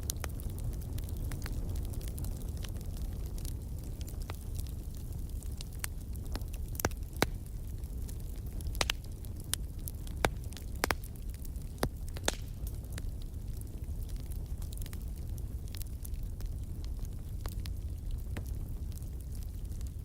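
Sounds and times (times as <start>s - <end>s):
burning logs popping and crackling: 0.0s - 20.0s
low rumble of flames: 0.0s - 20.0s.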